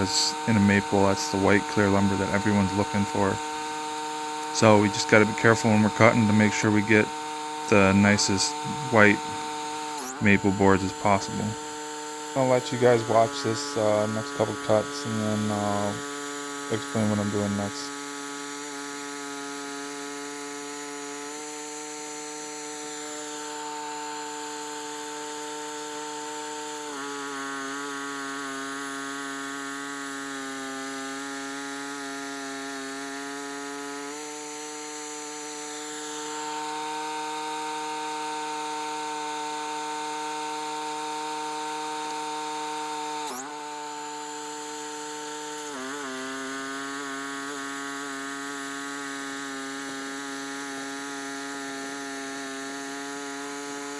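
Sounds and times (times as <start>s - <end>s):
sawmill blade cutting wood: 0.0s - 53.9s.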